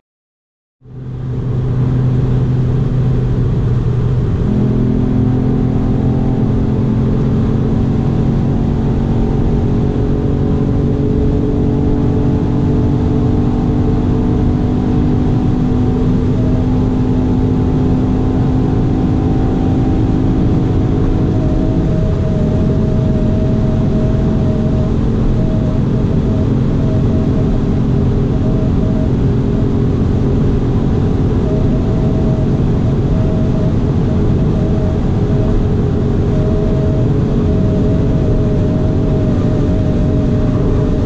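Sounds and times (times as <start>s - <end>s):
car engine pulling hard: 0.8s - 41.0s
wind and tyre noise: 0.8s - 41.0s.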